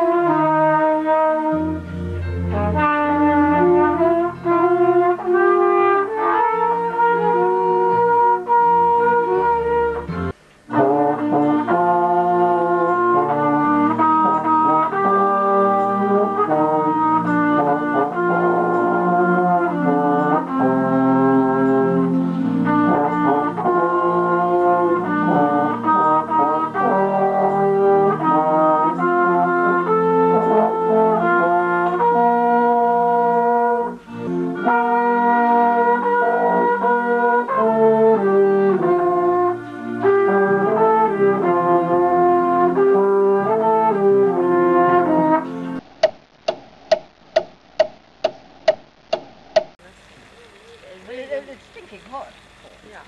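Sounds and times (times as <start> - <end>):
brass instruments playing: 0.0 - 45.9.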